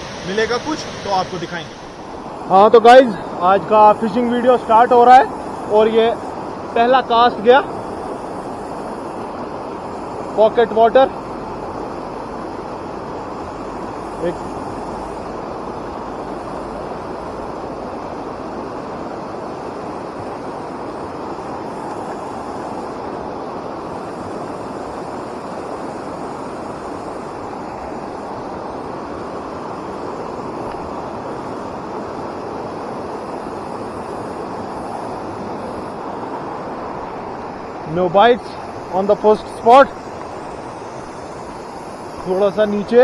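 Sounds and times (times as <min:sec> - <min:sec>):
mountain stream rushing: 0:00.0 - 0:43.0.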